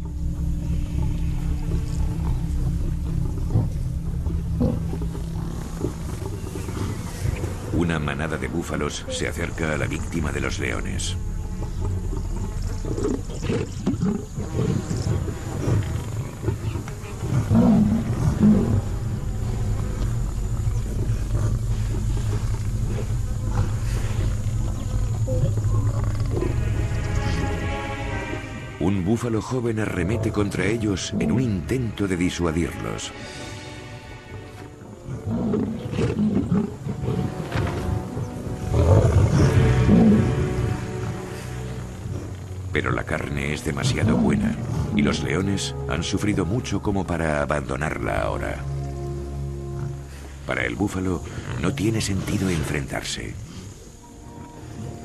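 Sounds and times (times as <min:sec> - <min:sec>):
lions growling: 0:00.0 - 0:28.4, 0:29.8 - 0:32.8, 0:34.4 - 0:55.0
background music: 0:00.0 - 0:55.0.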